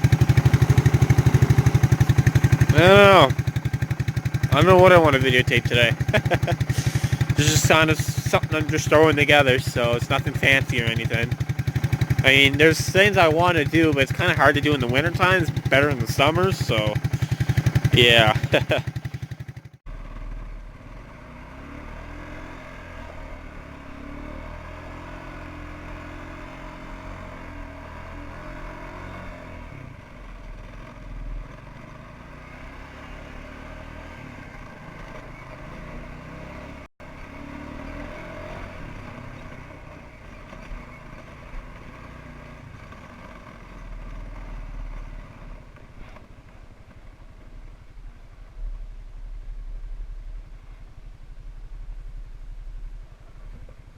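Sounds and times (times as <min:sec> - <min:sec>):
atv engine running: 0:00.0 - 0:53.9.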